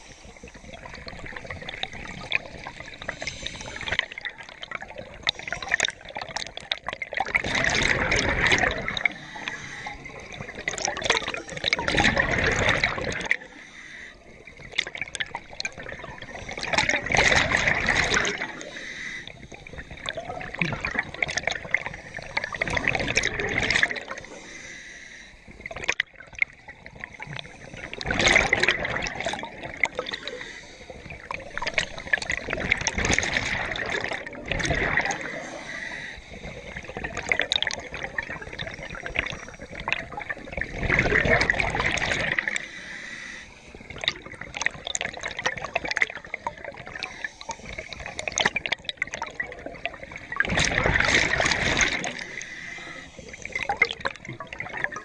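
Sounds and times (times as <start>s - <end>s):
exhaled bubbles underwater: 0.0s - 24.7s, 25.4s - 55.0s.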